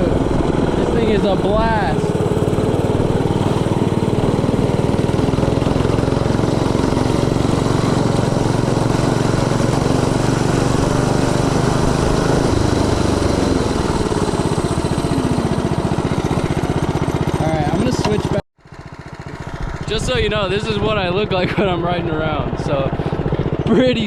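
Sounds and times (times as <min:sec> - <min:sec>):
mini bike engine running: 0:00.0 - 0:24.0.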